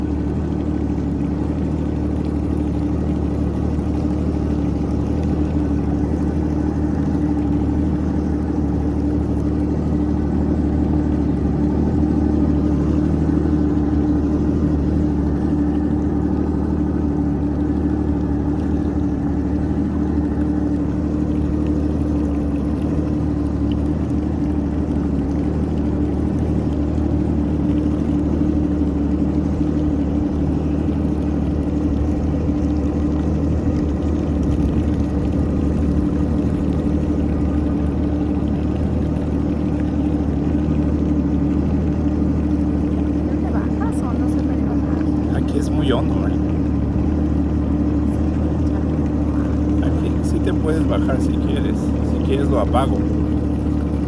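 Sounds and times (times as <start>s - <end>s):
jet ski engine running: 0.0s - 54.0s.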